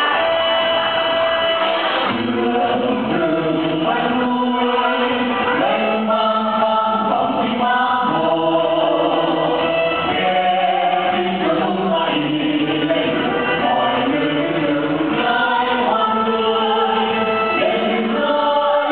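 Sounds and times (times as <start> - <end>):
choir singing long notes: 0.0 - 18.9.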